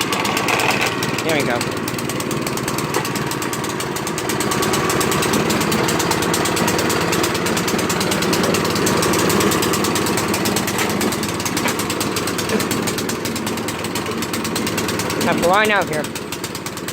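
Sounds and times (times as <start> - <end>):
small engine chugging: 0.0 - 16.9.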